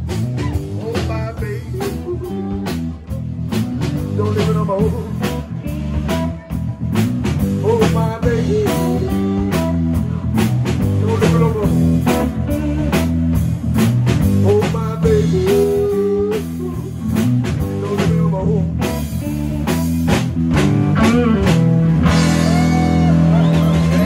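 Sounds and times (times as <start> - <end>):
drum kit steady beat: 0.0 - 24.0
electric guitars: 0.0 - 24.0.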